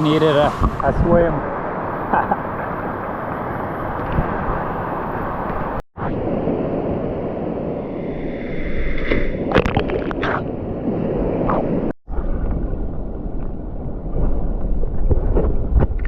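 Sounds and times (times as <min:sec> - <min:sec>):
water splashes: 0:00.0 - 0:05.8, 0:08.6 - 0:16.0.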